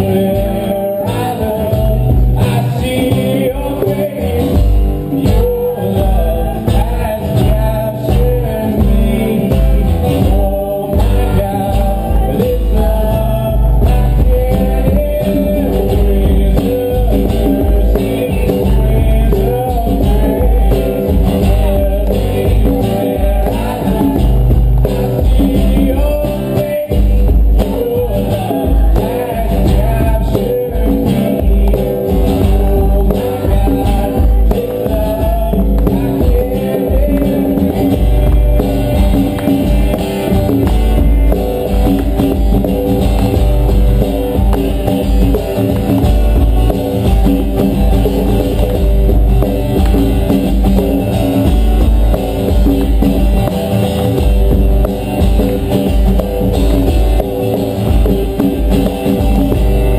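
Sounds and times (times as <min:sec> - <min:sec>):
djembe drum beat: 0:00.0 - 0:59.9
strummed acoustic guitar: 0:00.0 - 0:59.9
voices singing: 0:00.0 - 0:59.9.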